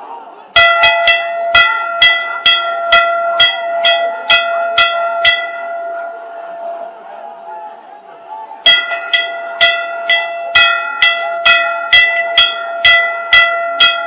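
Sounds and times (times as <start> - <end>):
crowd murmur: 0.0 - 14.0
bell ringing: 0.6 - 7.2, 8.6 - 14.0.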